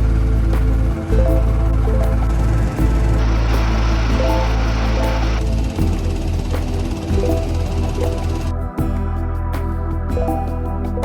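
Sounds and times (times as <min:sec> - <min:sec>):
music with heavy bass and beat: 0:00.0 - 0:11.0.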